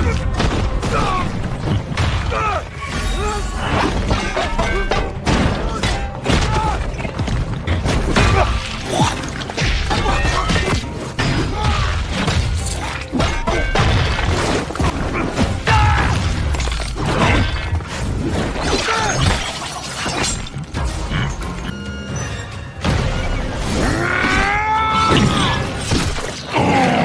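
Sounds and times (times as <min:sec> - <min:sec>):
dramatic music: 0:00.0 - 0:27.0.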